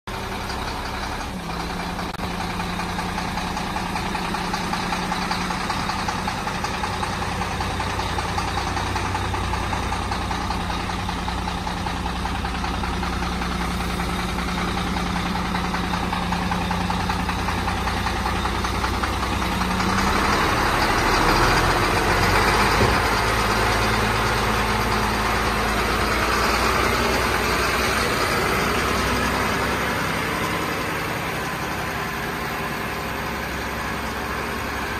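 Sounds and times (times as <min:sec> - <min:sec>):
coarse mid-range engine noise: 0:00.1 - 0:34.9
diesel truck engine idling: 0:00.1 - 0:34.9.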